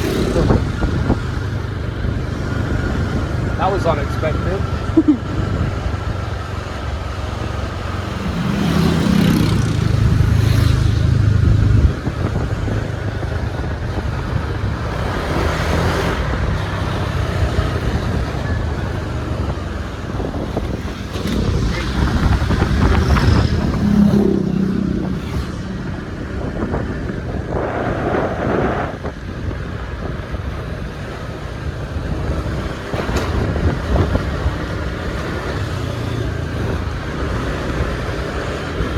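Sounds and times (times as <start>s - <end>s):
scooter engine and road noise: 0.0s - 38.9s
wind buffeting microphone: 0.0s - 38.9s.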